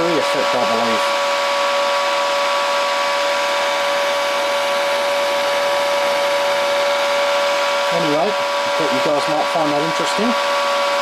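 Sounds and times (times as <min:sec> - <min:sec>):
cooling fan hiss: 0:00.0 - 0:11.0.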